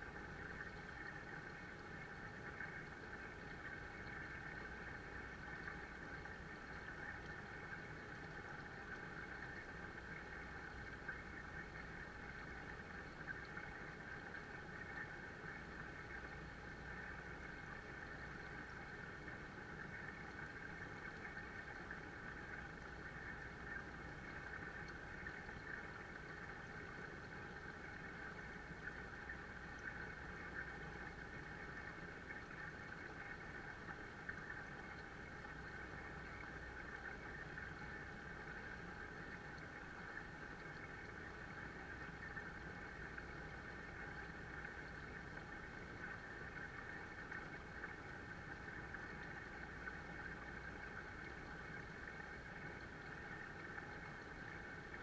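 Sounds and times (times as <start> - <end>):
waterfall pouring into pond: 0.0 - 55.0.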